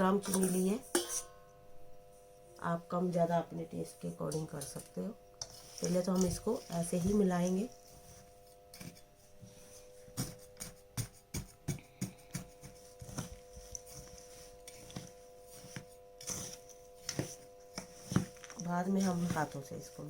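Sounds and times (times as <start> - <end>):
ladle knocking and scraping pot: 0.0 - 1.4, 4.3 - 8.0, 8.7 - 20.0
faint steady hum: 0.0 - 20.0.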